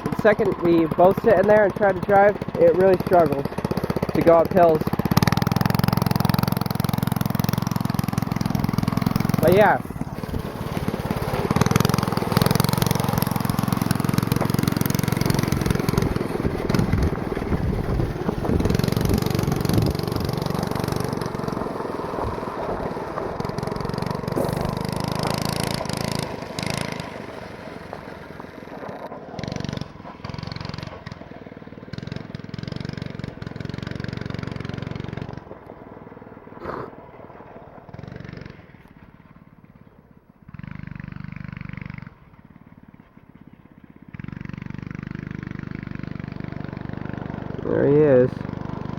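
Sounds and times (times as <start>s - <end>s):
go-kart engine running: 0.0s - 48.9s.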